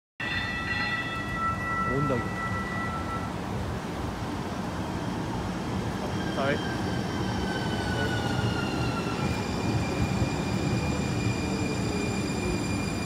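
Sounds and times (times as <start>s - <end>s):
light rail train pulling in: 0.2s - 13.0s.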